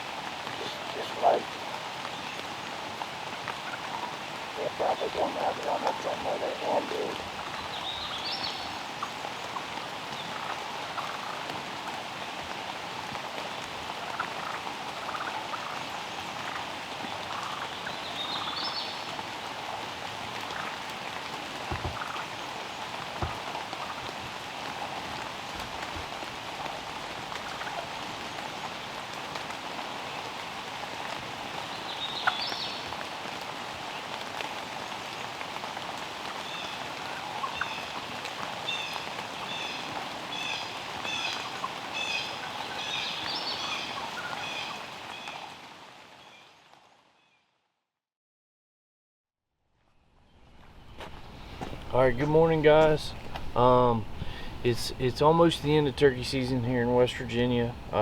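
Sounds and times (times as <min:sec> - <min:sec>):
rain pattering: 0:00.0 - 0:47.1, 0:50.6 - 0:58.0.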